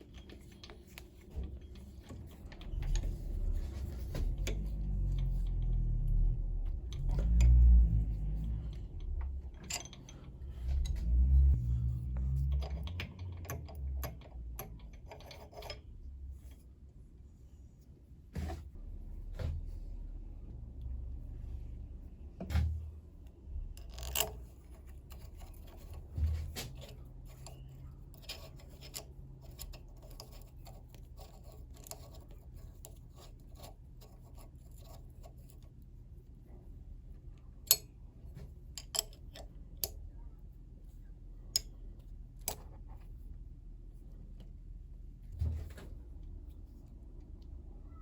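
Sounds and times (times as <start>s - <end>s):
light rubbing and scraping: 0.0s - 48.0s.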